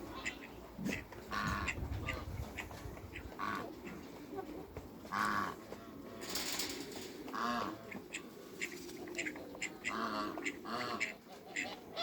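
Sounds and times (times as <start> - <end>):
geese honking: 0.0 - 4.1, 5.1 - 6.5, 7.2 - 12.0.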